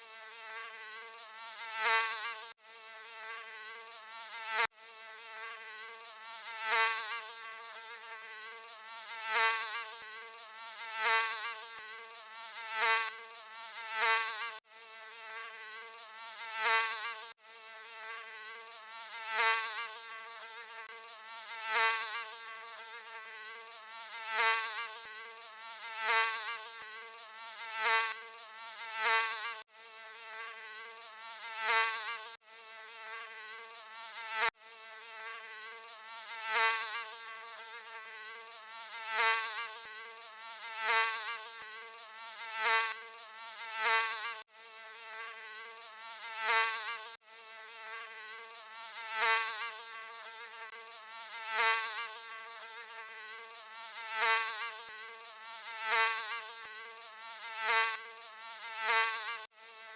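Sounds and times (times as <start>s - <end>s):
mosquito buzzing: 0.0s - 59.9s.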